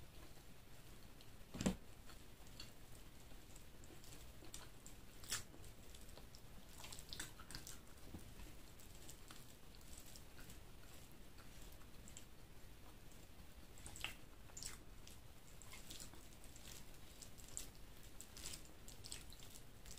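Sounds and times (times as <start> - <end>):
person chewing food: 1.0 - 19.9.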